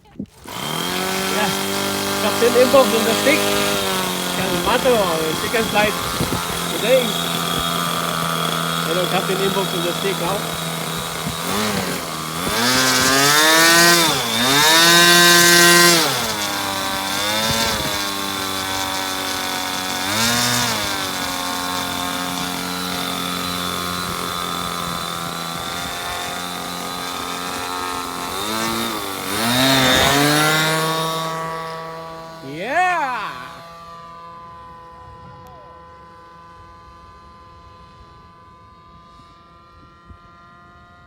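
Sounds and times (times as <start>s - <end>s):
model plane engine at high revs: 0.2s - 41.0s.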